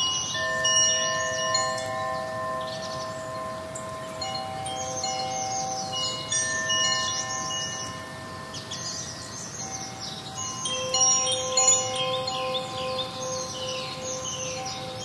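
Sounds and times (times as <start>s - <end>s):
chimes ringing: 0.0s - 15.0s.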